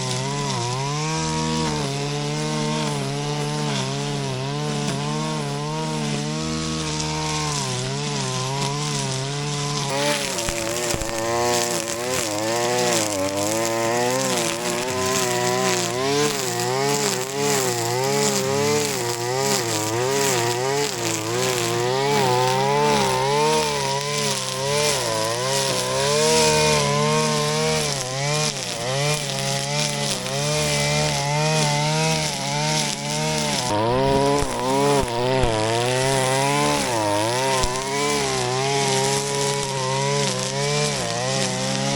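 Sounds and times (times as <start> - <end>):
brush cutter cutting grass: 0.0 - 41.9.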